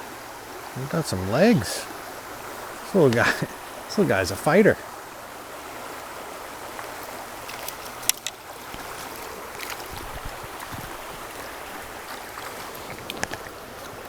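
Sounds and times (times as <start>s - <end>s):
shallow river current: 0.0s - 14.0s.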